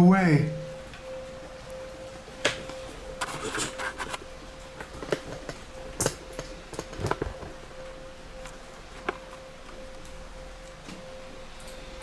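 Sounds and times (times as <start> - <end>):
thin steady hum: 0.0 - 12.0.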